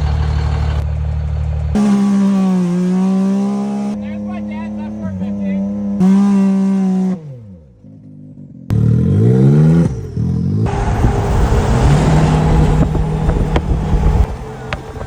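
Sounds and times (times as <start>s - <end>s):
pickup truck engine revving: 0.0s - 15.0s
road noise: 0.0s - 15.0s.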